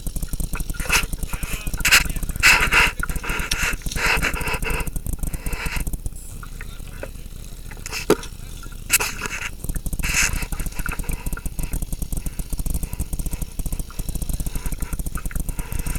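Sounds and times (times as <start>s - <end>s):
chainsaw engine running: 0.0s - 15.9s
sharp clicks: 0.2s - 15.9s.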